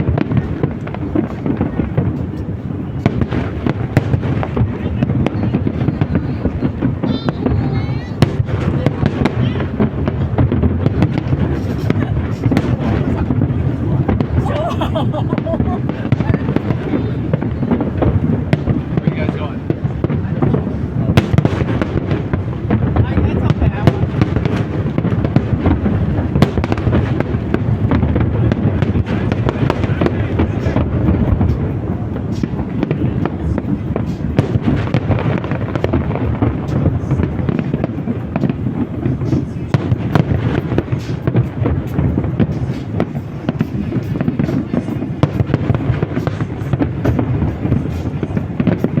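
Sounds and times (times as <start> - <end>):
fireworks cracks and bangs: 0.0 - 49.0
steady low rumble: 0.0 - 49.0.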